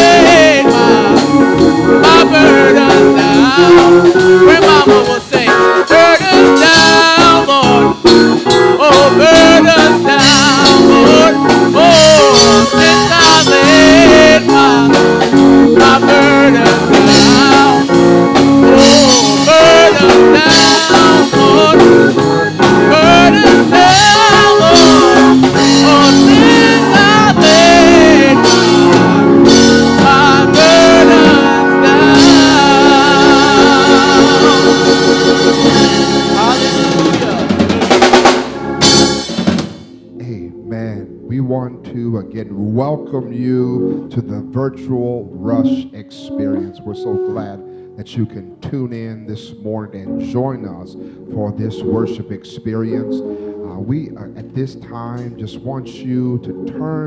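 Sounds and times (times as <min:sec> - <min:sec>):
man singing gospel song: 0:00.0 - 0:38.2, 0:40.1 - 0:57.0
keyboard accompaniment: 0:00.0 - 0:57.0.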